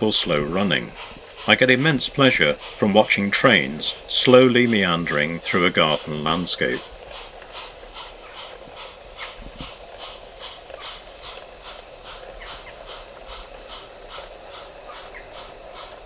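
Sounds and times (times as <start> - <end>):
model steam locomotive chuffing: 0.0 - 16.0
steady hum: 0.0 - 16.0.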